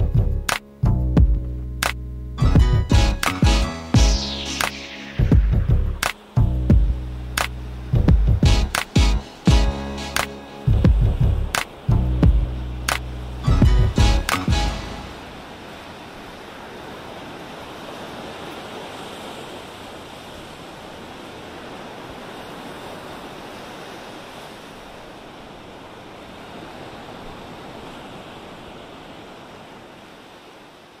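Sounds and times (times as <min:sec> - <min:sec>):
ocean waves rushing: 0:01.8 - 0:31.0.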